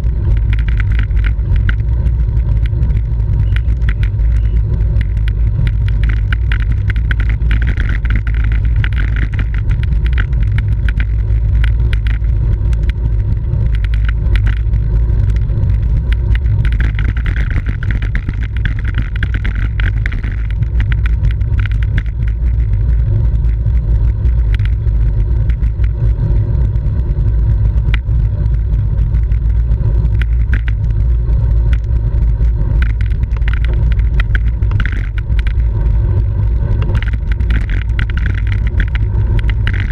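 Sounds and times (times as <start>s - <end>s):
bicycle clicks and rattles: 0.0s - 39.9s
tyre and road noise: 0.0s - 39.9s
wind rumble on microphone: 0.0s - 39.9s.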